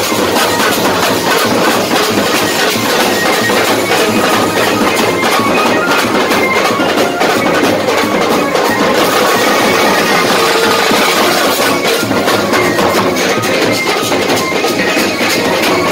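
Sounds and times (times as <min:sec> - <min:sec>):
street drum band: 0:00.0 - 0:15.9.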